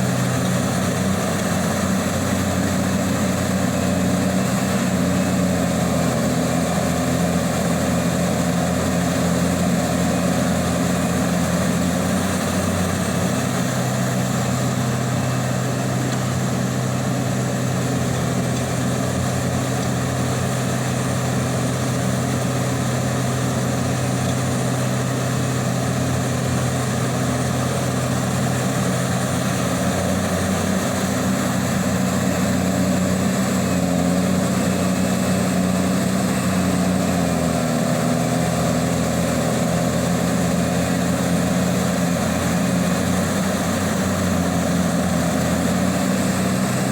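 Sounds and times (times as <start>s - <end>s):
diesel machinery engine running: 0.0s - 46.9s.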